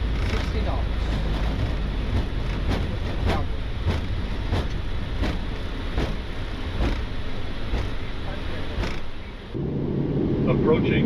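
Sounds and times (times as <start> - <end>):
wheel thumps: 0.0 - 9.3
aircraft rolling rumble: 0.0 - 11.0.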